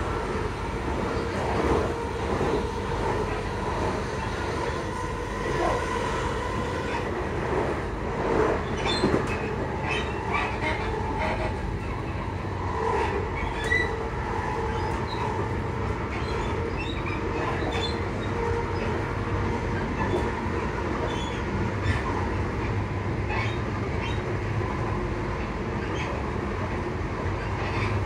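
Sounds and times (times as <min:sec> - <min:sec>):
rail clicks: 0:00.0 - 0:28.0
train wheels rumbling on rail: 0:00.0 - 0:28.0.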